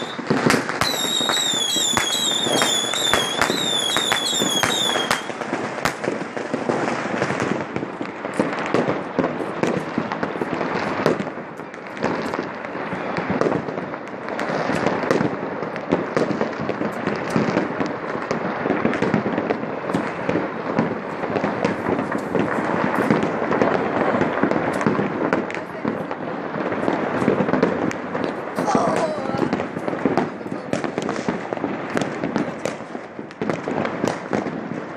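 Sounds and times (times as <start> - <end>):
firecrackers and fireworks crackling: 0.0 - 34.9.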